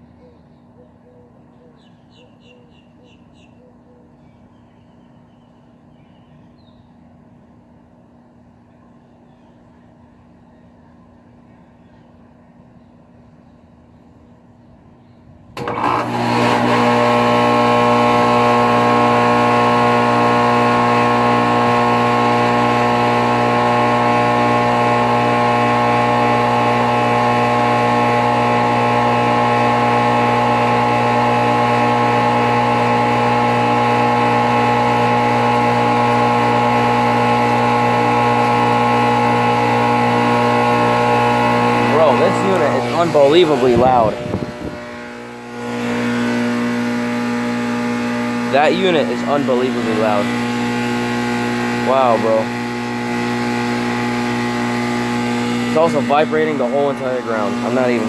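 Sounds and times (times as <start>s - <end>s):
air conditioner loud hum: 4.3s - 58.0s.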